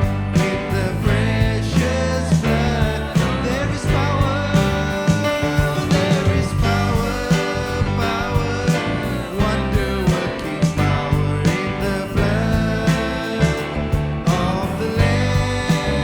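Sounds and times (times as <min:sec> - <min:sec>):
bass line: 0:00.0 - 0:16.0
guitar: 0:00.0 - 0:16.0
worship band music: 0:00.0 - 0:16.0.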